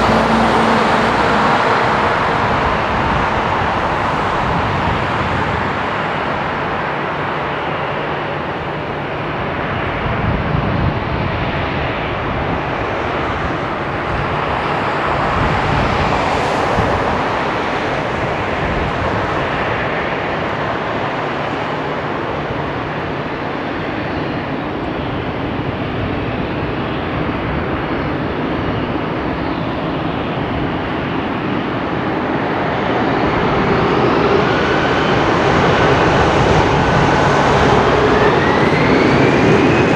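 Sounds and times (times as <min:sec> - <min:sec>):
jet aircraft taxiing: 0:00.0 - 0:39.9.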